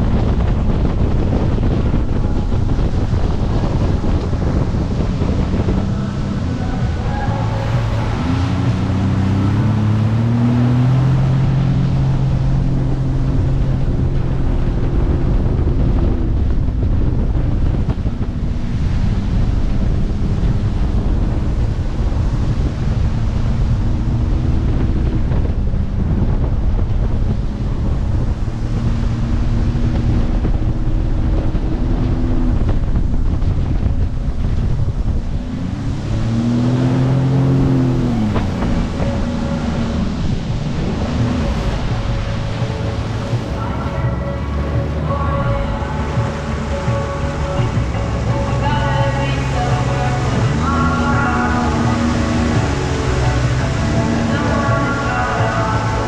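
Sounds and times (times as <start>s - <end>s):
jet ski engine: 0.0s - 56.0s
rushing water: 0.0s - 56.0s
wind noise on microphone: 0.0s - 56.0s.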